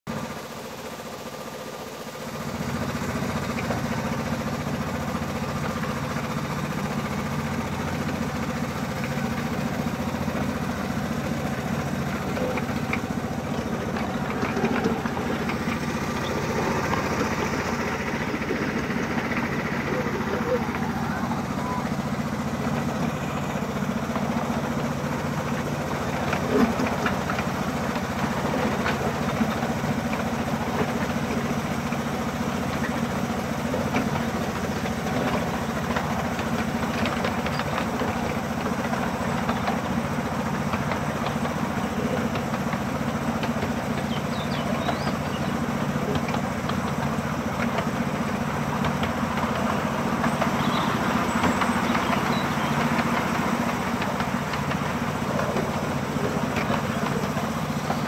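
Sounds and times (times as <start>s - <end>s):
miniature locomotive engine running: 0.1s - 58.0s.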